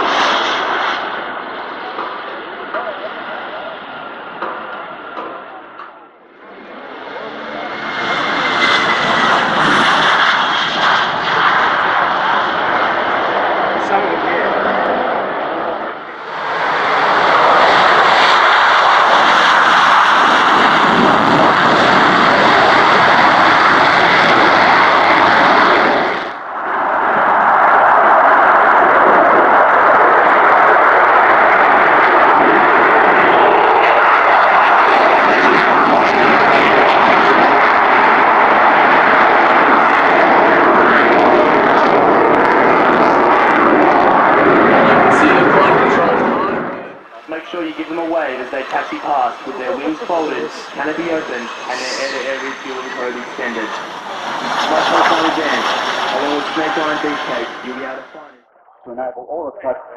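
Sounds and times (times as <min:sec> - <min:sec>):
military aircraft engines: 0:00.0 - 0:58.5.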